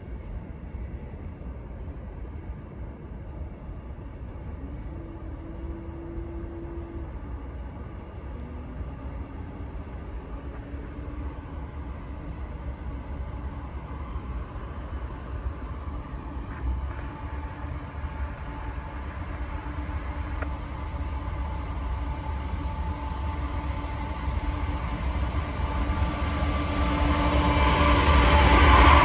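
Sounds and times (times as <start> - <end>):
diesel locomotive engine drone: 0.0 - 29.0.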